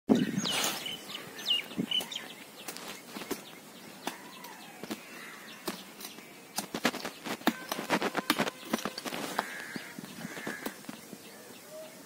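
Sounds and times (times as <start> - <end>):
birds chirping: 0.1 - 12.0
hands scraping stony soil: 0.4 - 1.1, 1.7 - 11.1.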